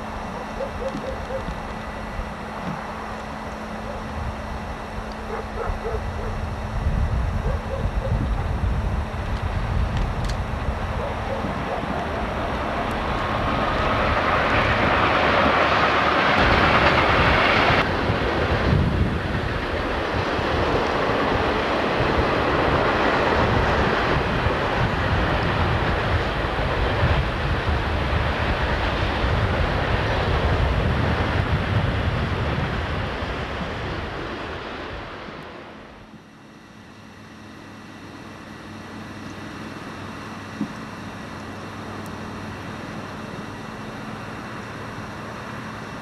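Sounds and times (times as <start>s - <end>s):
diesel locomotives passing: 0.0s - 46.0s.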